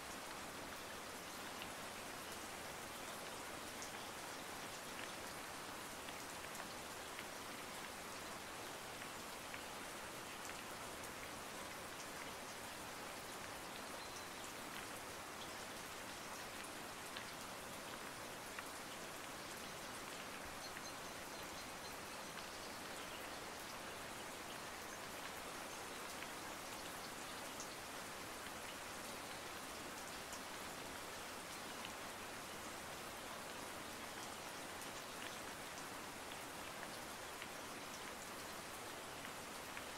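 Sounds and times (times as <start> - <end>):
light rain hiss: 0.0 - 39.9
faint raindrop ticks: 0.1 - 39.9.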